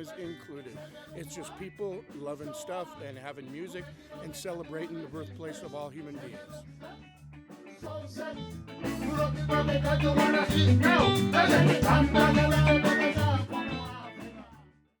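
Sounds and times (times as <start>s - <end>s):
band music with bass and guitar: 0.0s - 14.7s.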